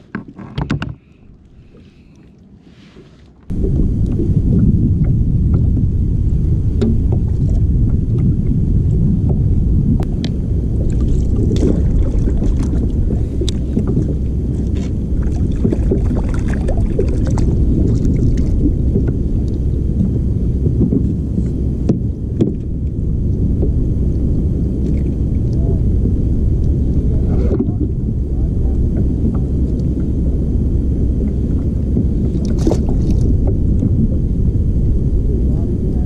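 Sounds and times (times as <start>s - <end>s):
wind buffeting microphone: 3.5s - 36.0s.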